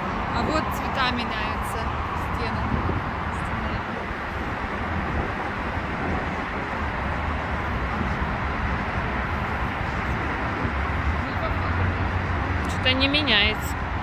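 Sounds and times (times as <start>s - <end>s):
even city hiss: 0.0s - 14.0s
low traffic rumble: 0.0s - 14.0s.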